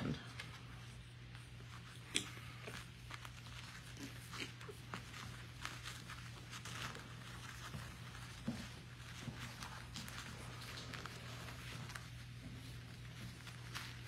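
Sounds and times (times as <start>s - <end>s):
puppies rustling on bedding: 0.0s - 14.0s
steady low hum: 0.0s - 14.0s.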